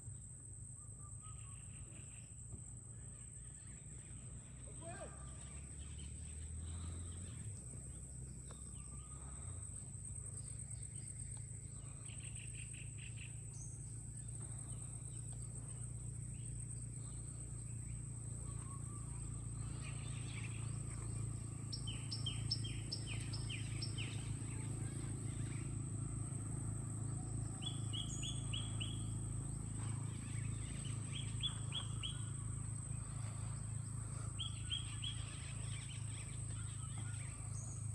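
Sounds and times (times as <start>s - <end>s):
low steady rumble: 0.0s - 37.9s
birds chirping: 0.8s - 26.0s, 27.0s - 37.9s.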